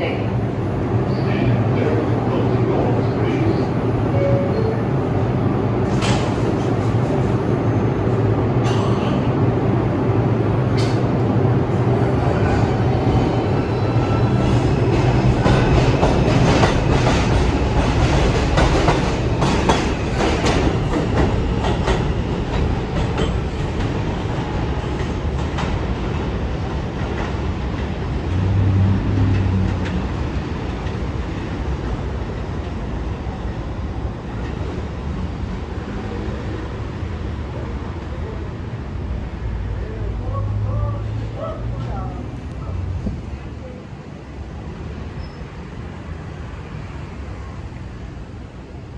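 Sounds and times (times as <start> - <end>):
subway train running: 0.0 - 48.9.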